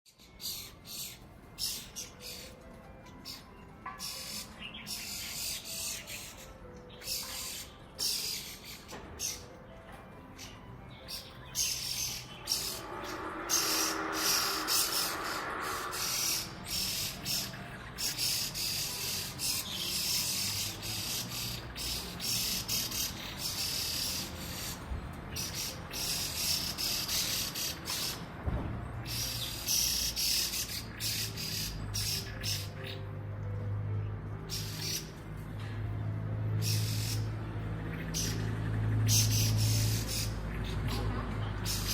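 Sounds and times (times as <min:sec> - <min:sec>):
bird harsh chattering calls: 0:00.2 - 0:02.6, 0:03.2 - 0:09.5, 0:11.1 - 0:28.2, 0:29.0 - 0:33.0, 0:34.4 - 0:35.1, 0:36.5 - 0:41.9.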